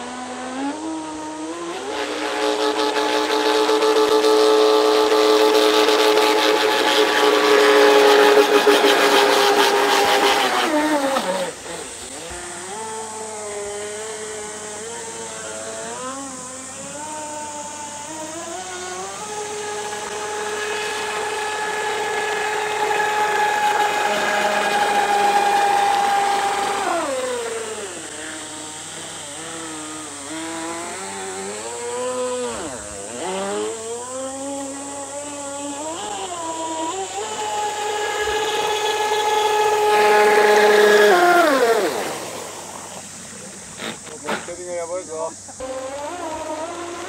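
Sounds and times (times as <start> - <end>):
model boat motor whining: 0.0 - 47.0.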